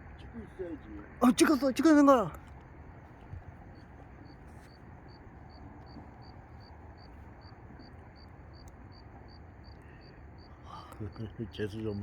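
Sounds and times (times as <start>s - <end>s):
cricket chirping: 0.0s - 12.0s
low background hiss: 0.0s - 12.0s.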